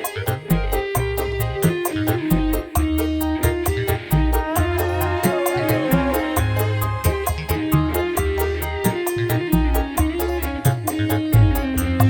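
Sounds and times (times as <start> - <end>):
deep bass notes: 0.0 - 12.0
live band instrumental music: 0.0 - 12.0
plucked string melody: 0.0 - 12.0.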